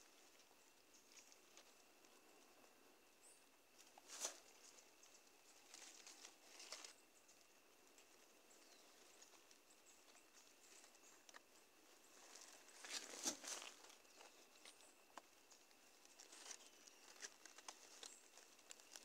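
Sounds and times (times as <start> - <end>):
rustling in grass and leaves: 0.0 - 19.0.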